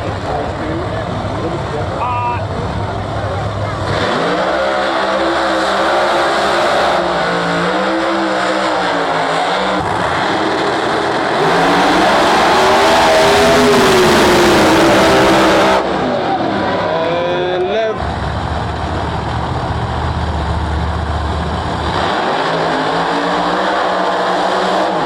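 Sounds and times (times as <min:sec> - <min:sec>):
drag race car engines revving: 0:00.0 - 0:25.0.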